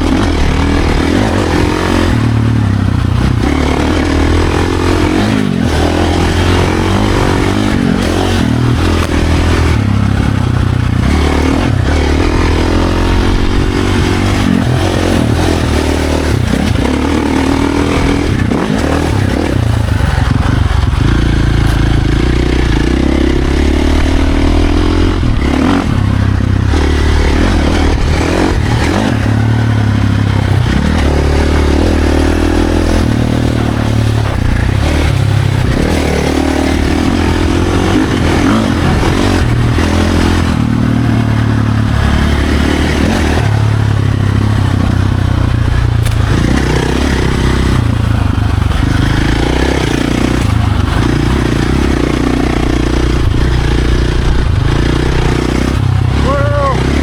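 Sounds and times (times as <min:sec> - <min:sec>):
bike rattling: 0:00.0 - 0:57.0
dirt bike engine revving: 0:00.0 - 0:57.0.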